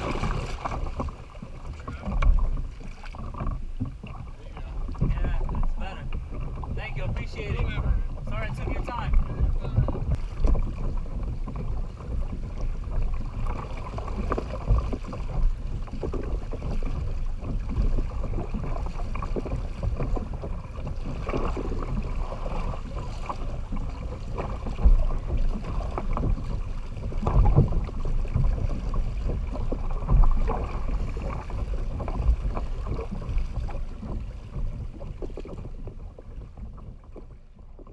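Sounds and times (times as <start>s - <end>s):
water slapping against kayak hull: 0.0s - 37.9s
water splashes: 0.0s - 37.9s
wind buffeting microphone: 0.0s - 37.9s.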